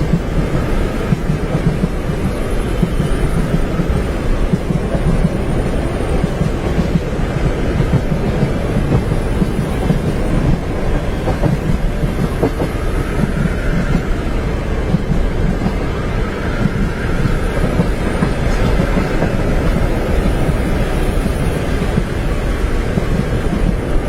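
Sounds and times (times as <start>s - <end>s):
train rumbling on tracks: 0.0s - 24.0s.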